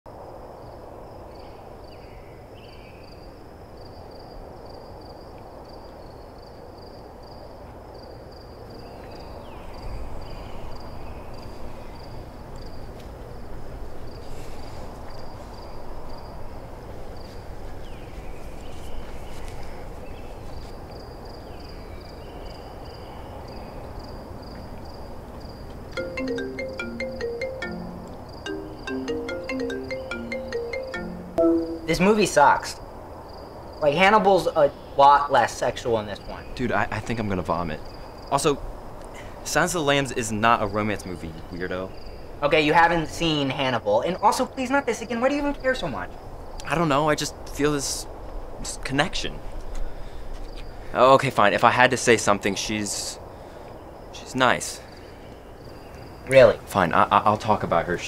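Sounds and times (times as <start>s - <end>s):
crickets chirping: 0.1s - 31.3s, 32.0s - 48.7s, 49.6s - 51.3s, 51.9s - 58.0s.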